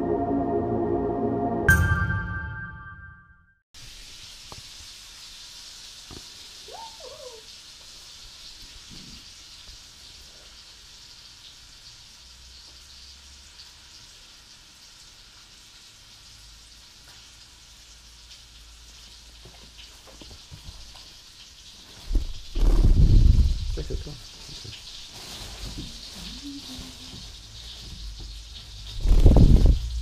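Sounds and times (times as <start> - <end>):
room tone hiss: 3.8 - 30.0.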